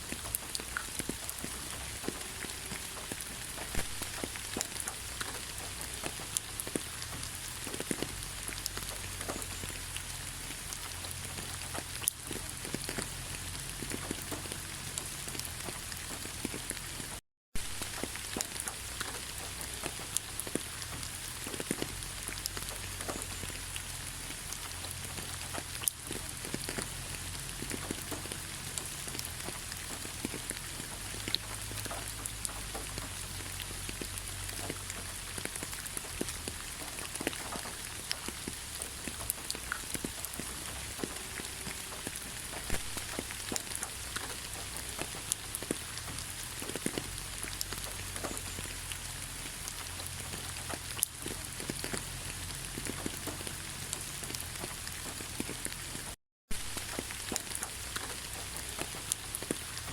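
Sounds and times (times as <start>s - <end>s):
rain drops tapping: 0.0s - 59.9s.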